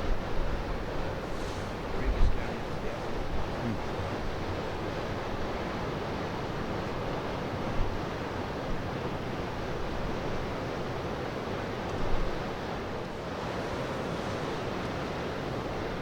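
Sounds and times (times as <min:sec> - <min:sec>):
surf washing: 0:00.0 - 0:16.0.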